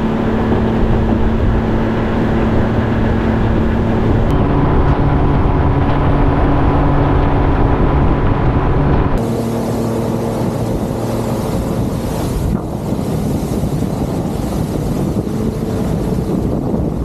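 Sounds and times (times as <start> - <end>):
outboard motor running: 0.0 - 17.0
water rushing: 0.0 - 17.0
wind: 0.0 - 17.0.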